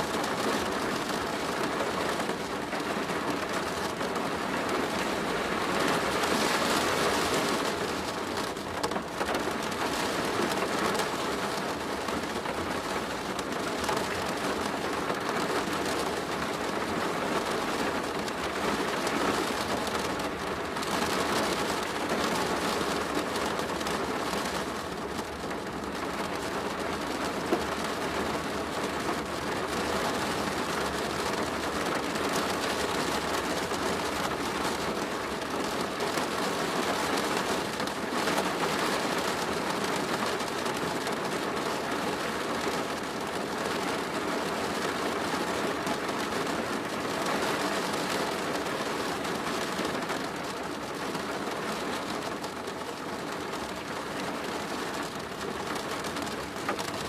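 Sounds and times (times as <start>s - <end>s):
rain pattering on a plastic roof: 0.0s - 57.0s.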